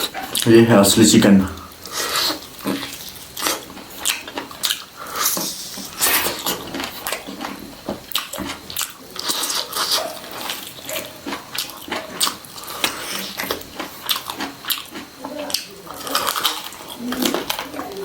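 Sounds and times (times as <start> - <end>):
chewing with wet mouth sounds: 0.0 - 0.5, 1.6 - 18.0.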